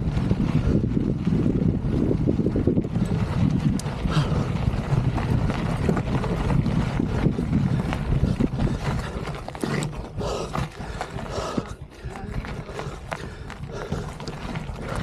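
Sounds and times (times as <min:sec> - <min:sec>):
mountain bike rolling rumble: 0:00.0 - 0:15.0
wind buffeting microphone: 0:00.0 - 0:15.0.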